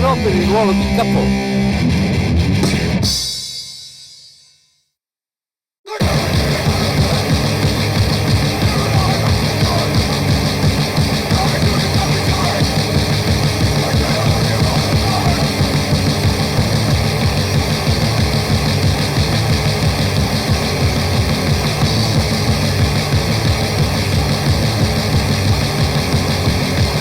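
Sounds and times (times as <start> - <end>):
distorted guitar and bass: 0.0 - 3.3, 5.9 - 27.0
fast pummelling drums: 2.6 - 4.3, 5.9 - 27.0.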